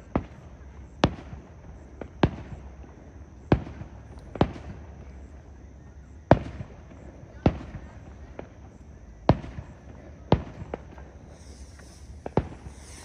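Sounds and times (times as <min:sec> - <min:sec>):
fireworks bursting with loud bangs: 0:00.0 - 0:05.4, 0:06.2 - 0:13.0
faint fireworks pops: 0:00.0 - 0:13.0.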